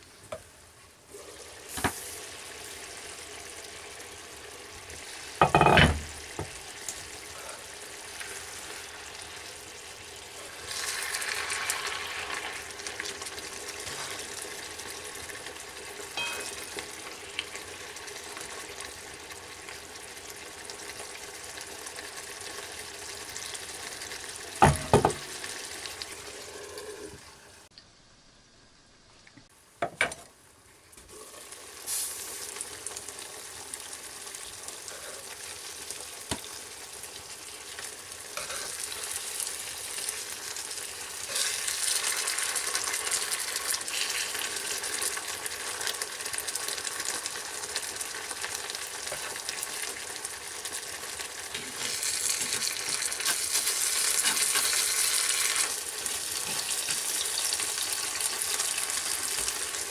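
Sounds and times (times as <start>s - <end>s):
food frying with sizzle: 0.0s - 59.9s.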